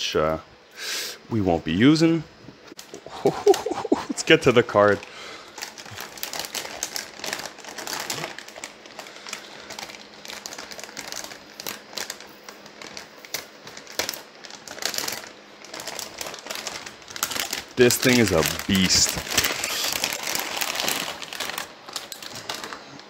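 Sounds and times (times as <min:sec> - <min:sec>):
plastic bag crinkling: 0:02.8 - 0:23.0.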